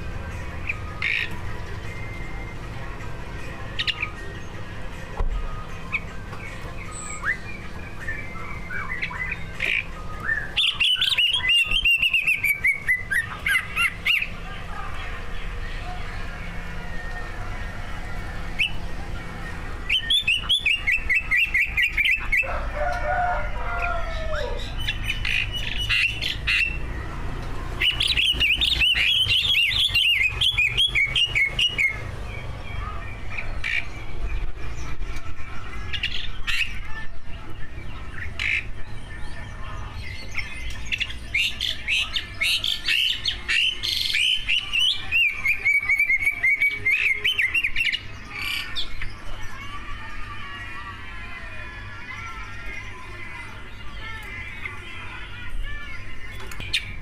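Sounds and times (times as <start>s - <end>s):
bird singing trills: 0.0s - 57.0s
low background hum: 0.0s - 57.0s.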